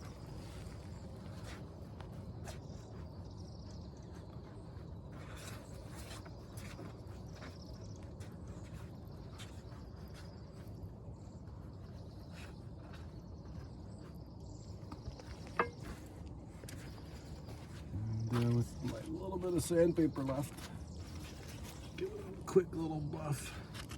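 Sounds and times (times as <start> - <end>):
insects chirping: 0.0 - 23.9
outdoor background noise: 0.0 - 23.9.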